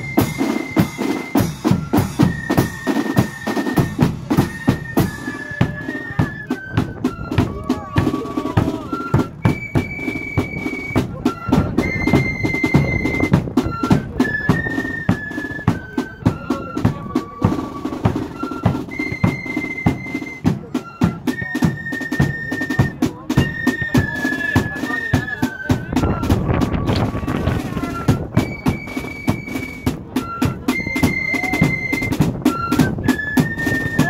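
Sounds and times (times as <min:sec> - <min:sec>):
flutes playing melody: 0:00.0 - 0:34.0
snare and bass drums: 0:00.0 - 0:34.0.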